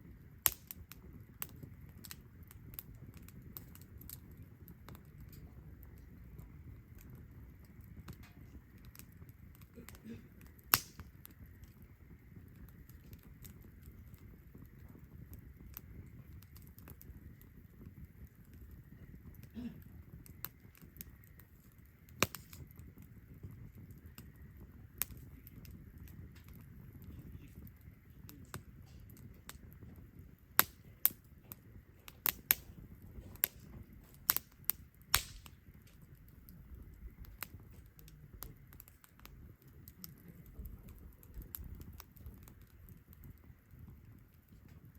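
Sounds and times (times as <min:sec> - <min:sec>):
campfire crackling and popping: 0:00.0 - 0:44.9
low rumble of fire: 0:00.0 - 0:44.9.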